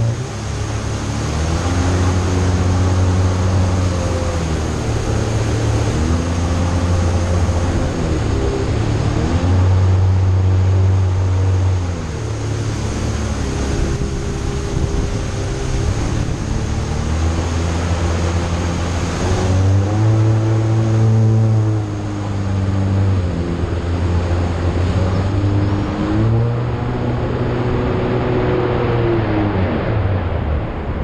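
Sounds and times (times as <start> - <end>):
jet ski engine revving: 0.0 - 30.5
water and spray rushing: 0.0 - 31.0.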